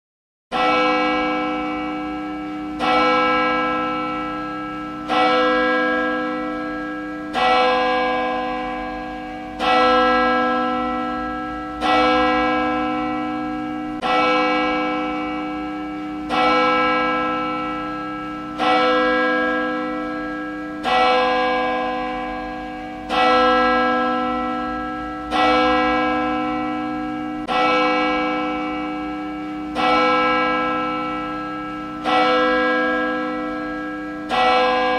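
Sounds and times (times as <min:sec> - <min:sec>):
church bell tolling: 0:00.5 - 0:34.9.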